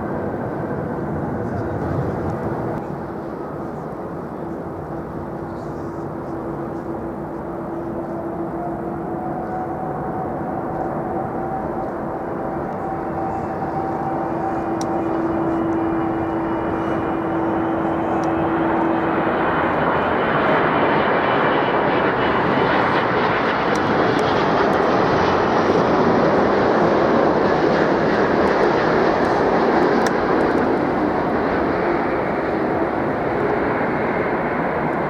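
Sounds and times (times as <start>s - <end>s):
jet engines roaring past: 0.0s - 35.0s.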